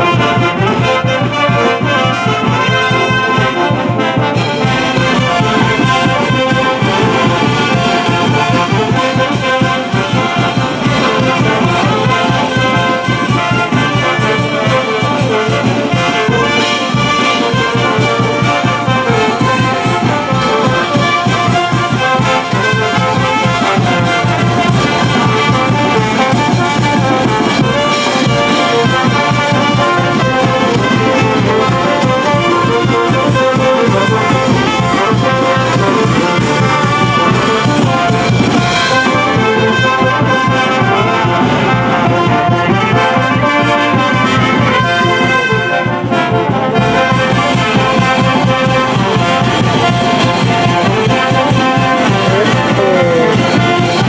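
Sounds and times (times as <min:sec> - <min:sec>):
bass drum and snare beat: 0:00.0 - 0:54.0
brass band playing: 0:00.0 - 0:54.0.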